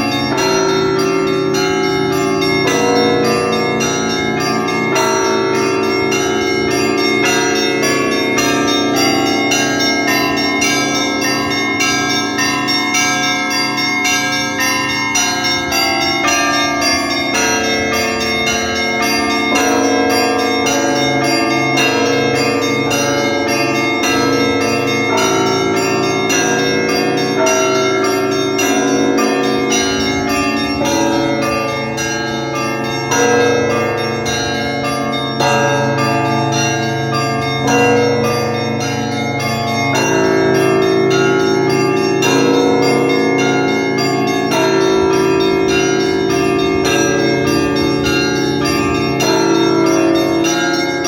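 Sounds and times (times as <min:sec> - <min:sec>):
deep bell strokes: 0:00.0 - 0:51.0
small bells struck rapidly: 0:00.0 - 0:51.0.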